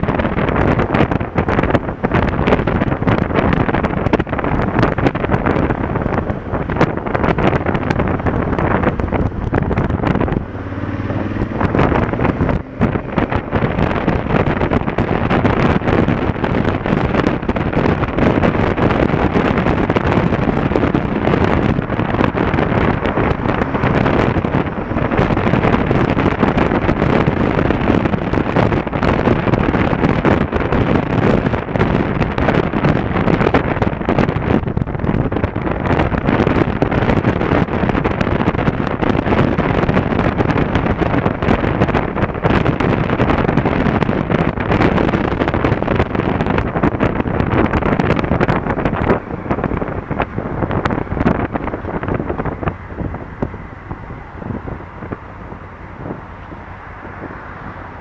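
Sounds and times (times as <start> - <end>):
motorcycle engine: 0.0 - 58.0
surrounding traffic: 0.0 - 58.0
wind rush buffeting microphone: 0.0 - 58.0.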